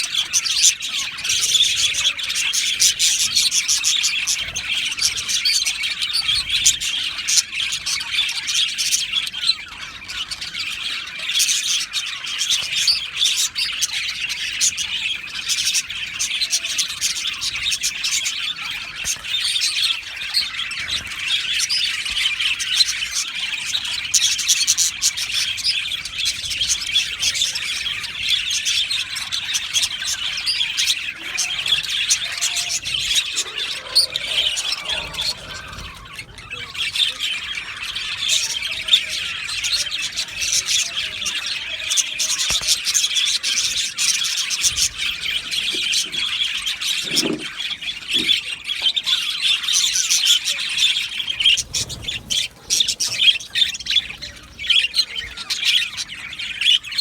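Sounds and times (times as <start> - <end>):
budgerigars chattering and squawking: 0.0 - 57.0.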